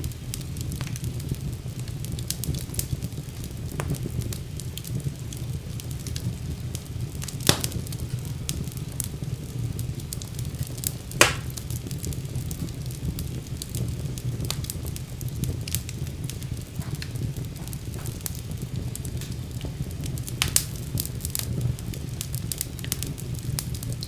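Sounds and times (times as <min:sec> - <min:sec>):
fire popping: 0:00.0 - 0:24.0
wood fire crackling: 0:00.0 - 0:24.0.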